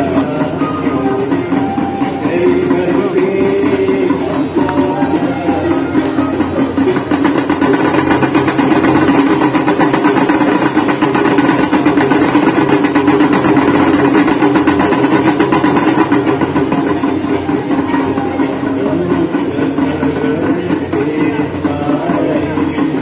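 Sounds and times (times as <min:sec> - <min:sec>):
rapid percussion and ringing: 0:00.0 - 0:23.0.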